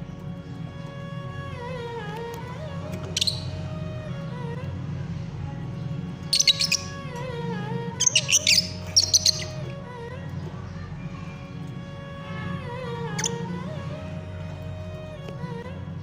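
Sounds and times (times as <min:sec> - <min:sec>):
background music: 0:00.0 - 0:16.0
birds chirping: 0:00.0 - 0:16.0.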